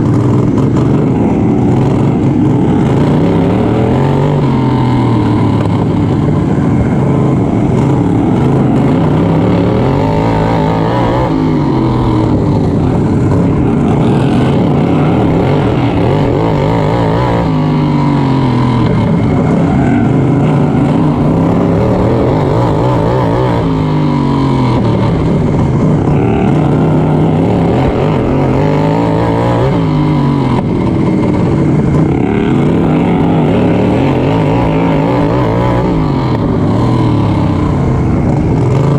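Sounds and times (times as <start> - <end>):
racing lawn mower engine: 0.0 - 38.9.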